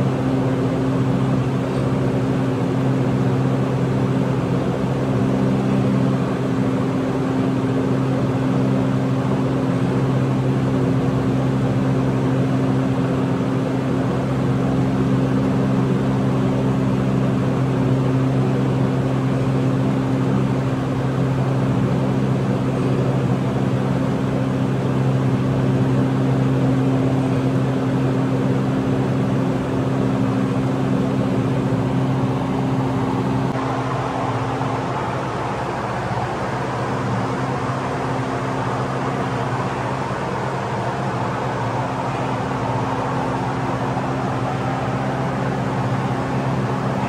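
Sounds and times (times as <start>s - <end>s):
steady machine hum: 0.0s - 47.0s.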